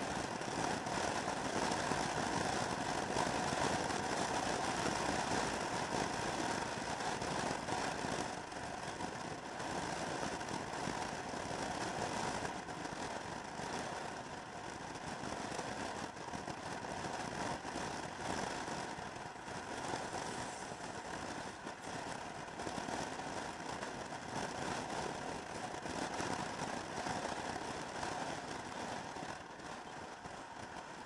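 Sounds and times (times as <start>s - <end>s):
scooter engine drone: 0.0s - 31.0s
wind and road noise: 0.0s - 31.0s.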